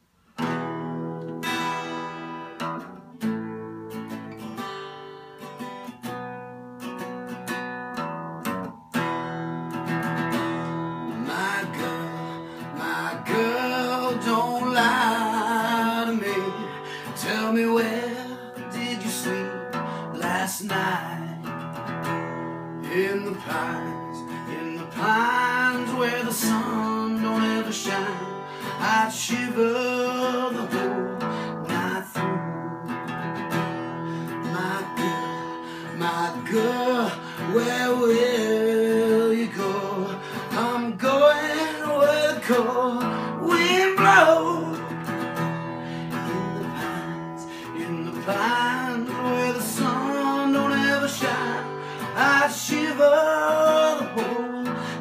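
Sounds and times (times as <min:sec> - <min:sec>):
acoustic guitar strumming: 0:00.0 - 0:55.0
man singing: 0:10.3 - 0:55.0.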